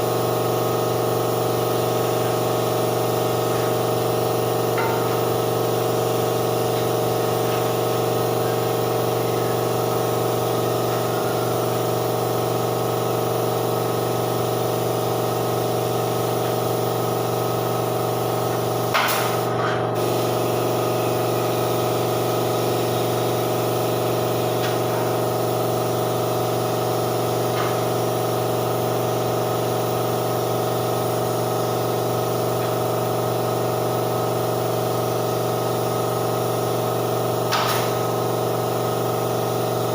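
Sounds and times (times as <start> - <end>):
air compressor humming: 0.0 - 39.9
paint spray gun hissing: 0.0 - 39.9.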